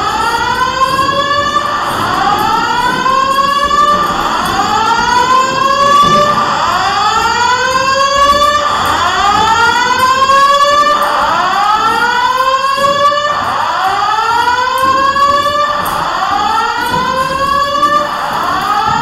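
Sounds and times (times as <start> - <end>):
building alarm whooping: 0.0 - 19.0.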